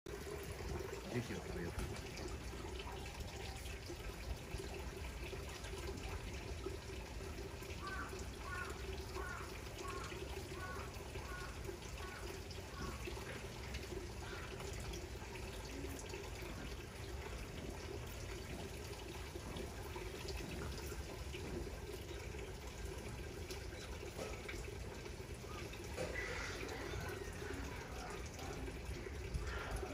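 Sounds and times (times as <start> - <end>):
steady running water noise: 0.1 - 29.9.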